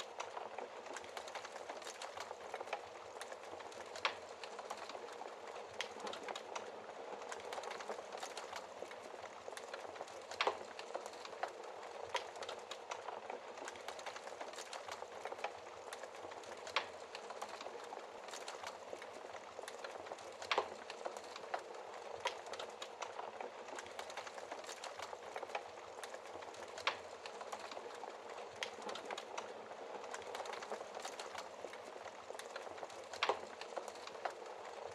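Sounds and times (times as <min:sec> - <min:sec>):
wood fire hissing and crackling: 0:00.0 - 0:34.9.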